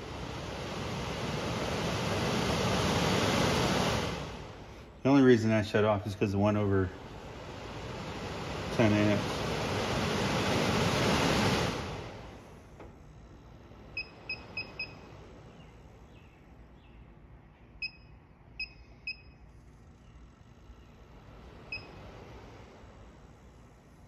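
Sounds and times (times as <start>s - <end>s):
blower fan air rush: 0.0s - 24.0s.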